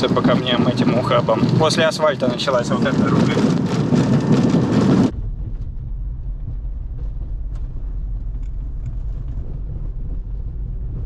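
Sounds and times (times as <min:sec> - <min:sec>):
car rumbling on dirt road: 0:00.0 - 0:11.0
rush of noise: 0:00.0 - 0:11.0.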